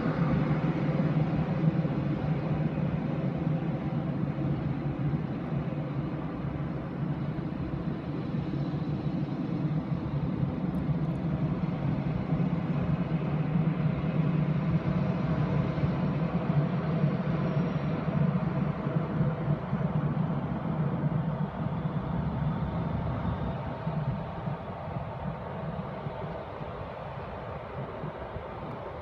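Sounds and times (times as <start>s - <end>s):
jet engines rumbling with whine: 0.0s - 29.0s.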